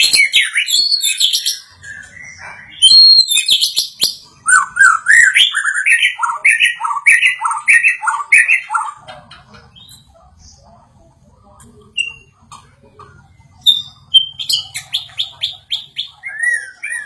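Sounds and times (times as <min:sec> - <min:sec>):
songbird singing: 0:00.0 - 0:11.0, 0:11.6 - 0:17.0.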